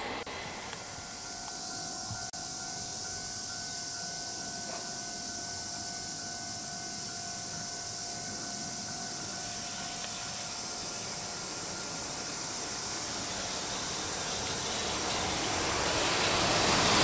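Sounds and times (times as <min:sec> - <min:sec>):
faint high whine: 0:00.0 - 0:17.0
steady hiss: 0:00.0 - 0:17.0.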